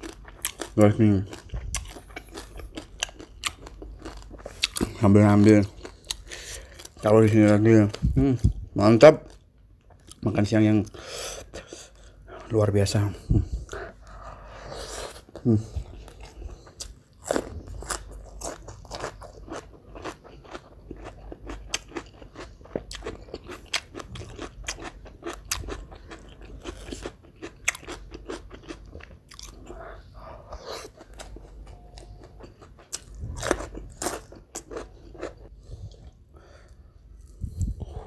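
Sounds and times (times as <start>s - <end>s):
person chewing crisp fried fish: 0.0s - 8.4s, 9.2s - 10.2s, 13.4s - 38.0s.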